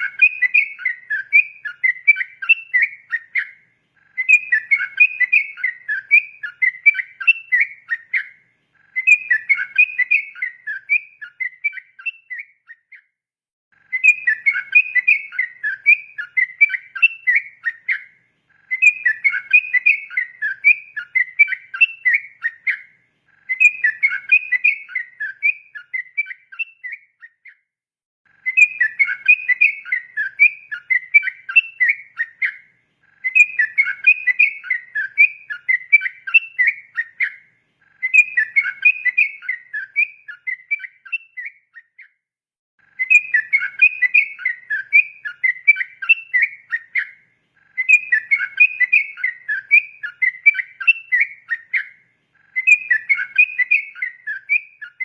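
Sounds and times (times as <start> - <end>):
bird singing bubbling whistles: 0.0 - 13.1, 13.9 - 27.6, 28.4 - 42.2, 43.0 - 55.0.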